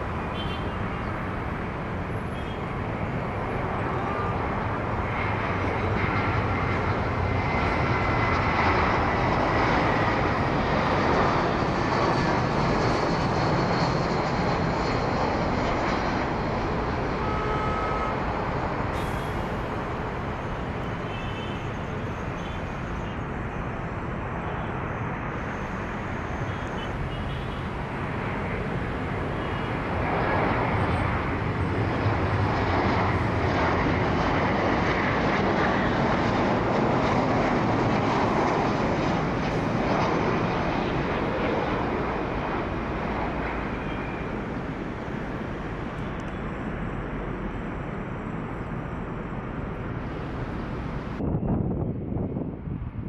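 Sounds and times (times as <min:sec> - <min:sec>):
aircraft engines passing: 0:00.0 - 0:53.0.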